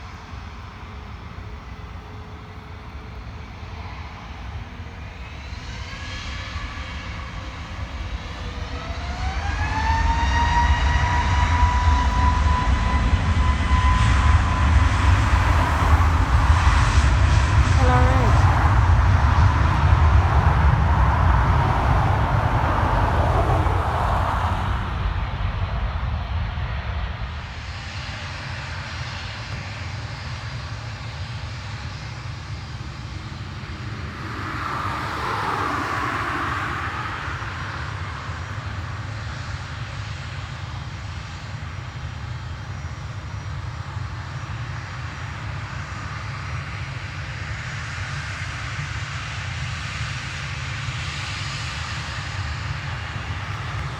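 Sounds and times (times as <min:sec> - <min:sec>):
aircraft passing: 0:00.0 - 0:53.9
airliner engine rumble: 0:00.0 - 0:53.9
distant engine hum: 0:00.0 - 0:53.9.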